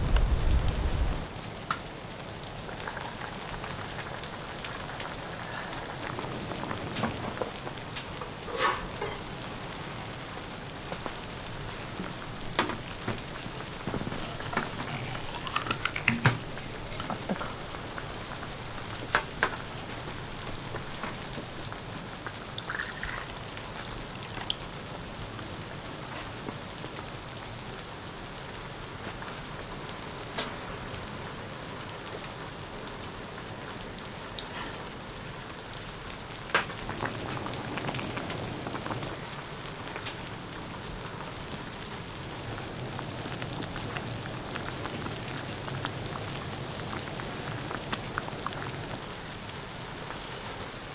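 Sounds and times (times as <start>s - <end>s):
patter of precipitation: 0.0s - 50.9s.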